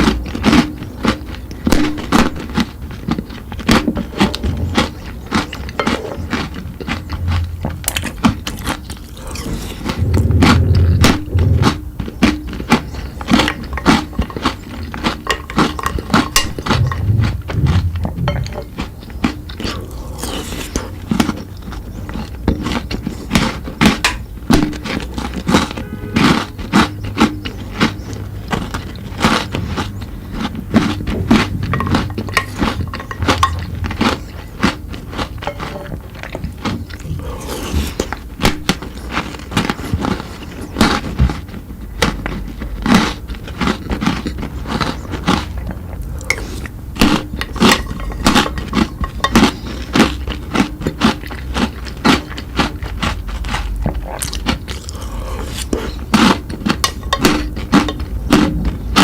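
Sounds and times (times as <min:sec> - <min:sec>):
crunching and chewing chocolate: 0:00.0 - 0:59.0.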